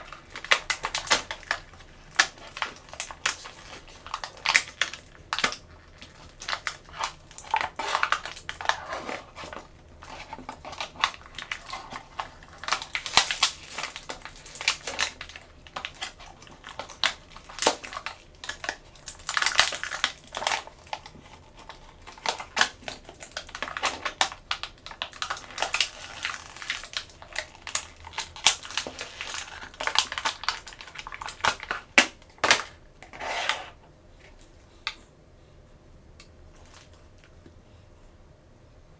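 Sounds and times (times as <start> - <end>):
plastic packaging crinkling: 0.0 - 34.5.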